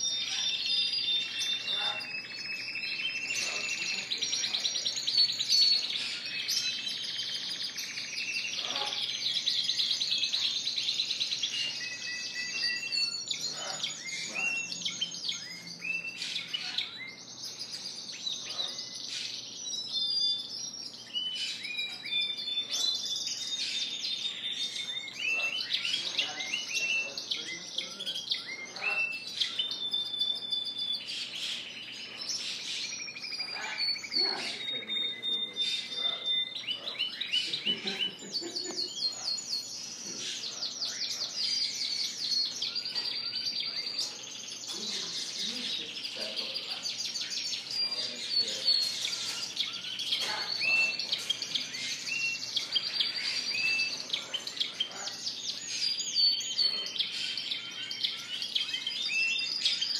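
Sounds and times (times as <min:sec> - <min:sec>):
canaries singing trills: 0:00.0 - 0:59.9.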